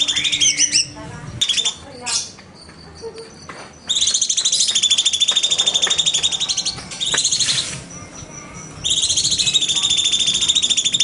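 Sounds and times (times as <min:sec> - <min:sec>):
bird rattling trill: 0:00.0 - 0:11.0.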